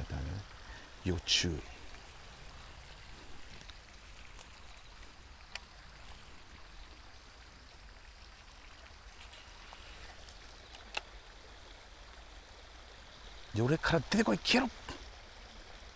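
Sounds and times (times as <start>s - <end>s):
faint outdoor hiss: 0.0s - 15.9s.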